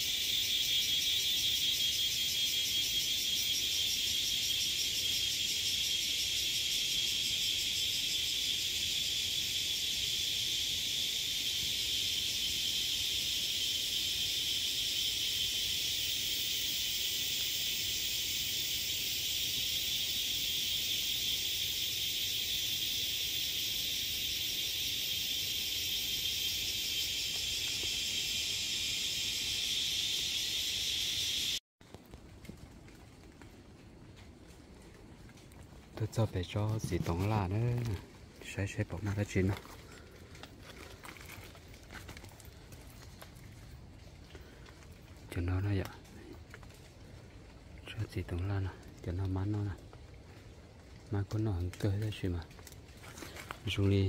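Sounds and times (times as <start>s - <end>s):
forest insects chorus: 0.0s - 31.6s, 34.0s - 54.0s.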